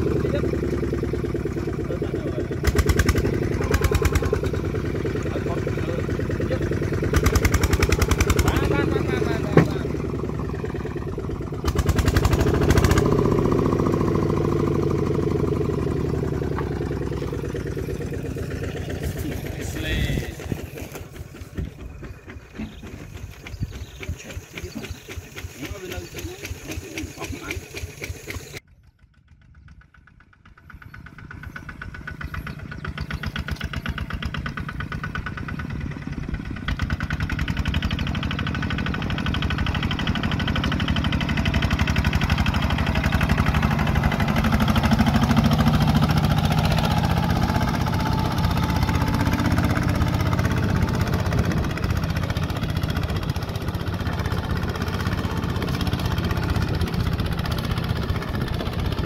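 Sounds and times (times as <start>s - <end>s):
walking tractor engine chugging: 0.0s - 59.0s.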